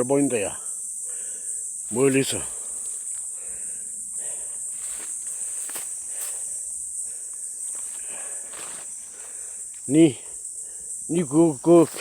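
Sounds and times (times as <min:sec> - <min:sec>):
insects chorus drone: 0:00.0 - 0:12.0.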